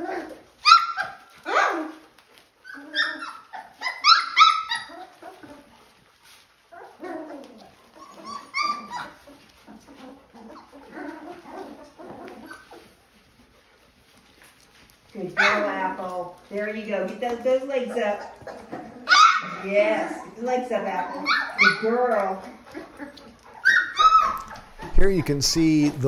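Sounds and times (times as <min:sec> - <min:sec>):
puppies whining and yipping: 0:00.0 - 0:25.0.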